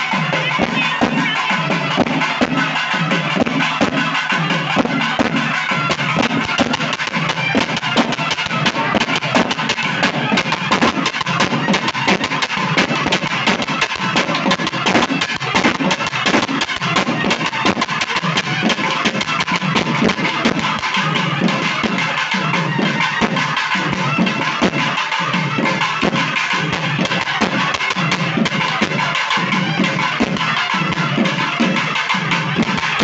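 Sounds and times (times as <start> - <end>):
fast continuous drumming: 0.0 - 33.0.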